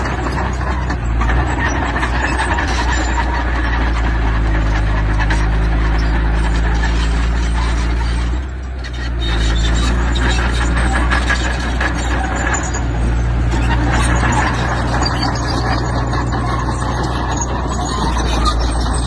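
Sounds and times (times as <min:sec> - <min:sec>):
diesel construction machinery running: 0:00.0 - 0:19.0
metal and stone clanking and scraping: 0:00.0 - 0:19.0.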